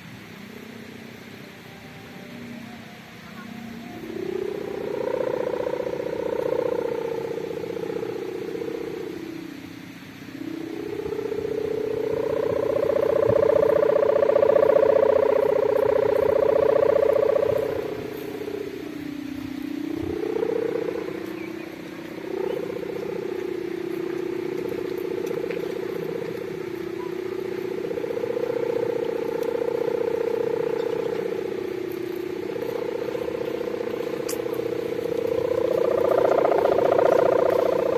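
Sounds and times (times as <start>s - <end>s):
kite hummer droning buzz: 0.0s - 37.9s.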